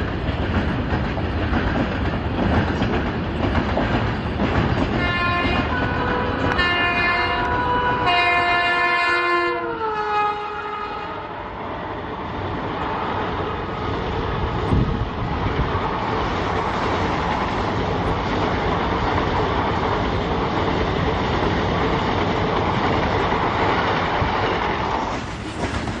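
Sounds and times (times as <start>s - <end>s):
train rushing past: 0.0s - 26.0s.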